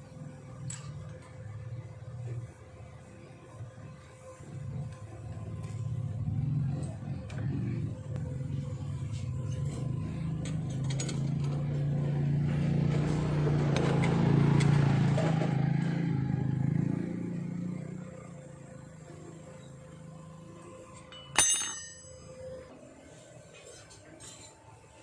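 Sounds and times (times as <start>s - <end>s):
motorcycle engines running: 0.0s - 23.1s.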